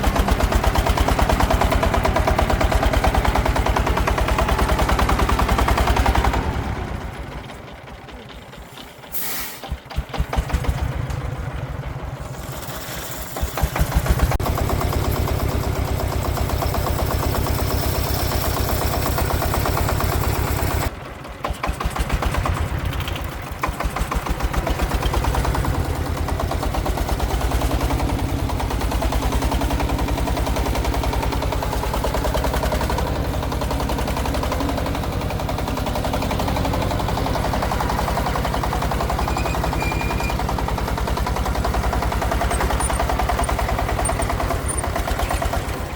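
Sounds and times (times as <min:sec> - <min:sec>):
diesel engine thumping: 0:00.0 - 0:45.9.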